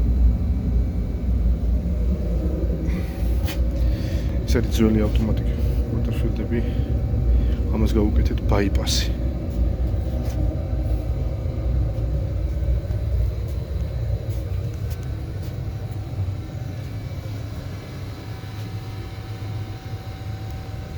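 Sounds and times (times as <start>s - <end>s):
boiler low rumble: 0.0s - 20.9s
pump faint hum: 0.0s - 20.9s.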